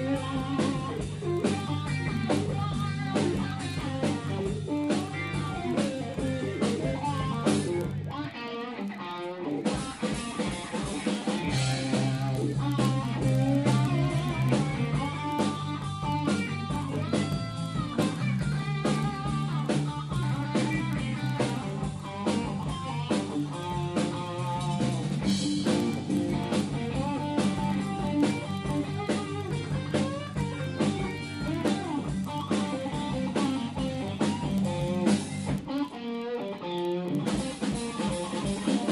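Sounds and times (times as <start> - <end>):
drum kit beat: 0.0 - 8.4, 9.5 - 38.9
bass guitar: 0.0 - 38.9
electric guitar lines: 0.0 - 38.9.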